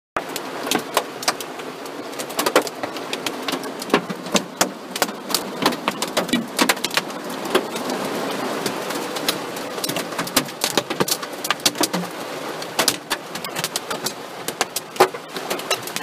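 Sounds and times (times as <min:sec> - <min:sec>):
hail striking car metal: 0:00.2 - 0:16.0.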